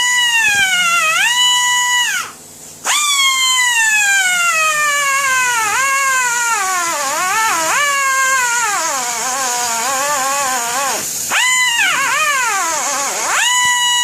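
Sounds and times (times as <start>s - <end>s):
rotary tool grinding whine: 0.0s - 14.0s.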